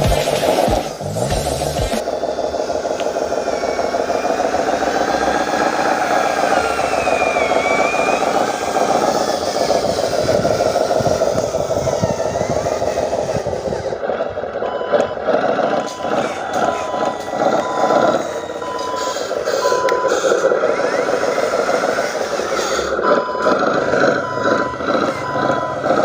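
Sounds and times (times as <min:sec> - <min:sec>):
electric motor and gearbox whining: 0:00.0 - 0:26.0.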